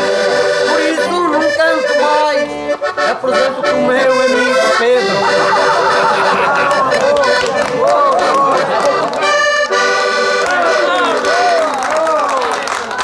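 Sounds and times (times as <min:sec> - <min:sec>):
accordion playing folk tune: 0:00.0 - 0:11.9.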